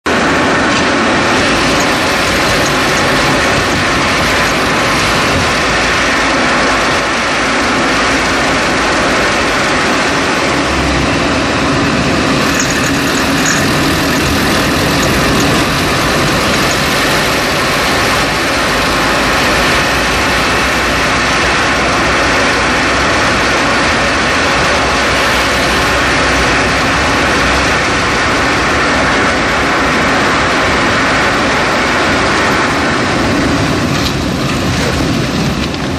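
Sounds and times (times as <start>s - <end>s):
car engine running: 0.1s - 35.9s
loud metallic rattle: 0.7s - 30.9s.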